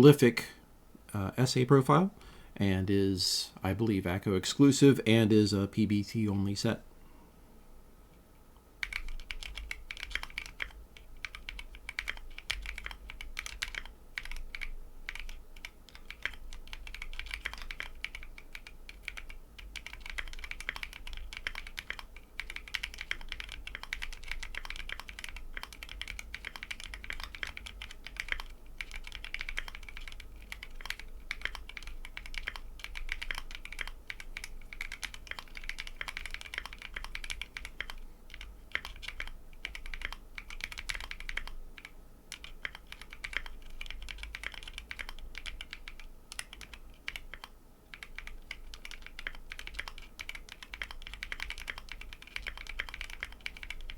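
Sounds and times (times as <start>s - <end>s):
mechanical keyboard typing: 8.8s - 53.9s.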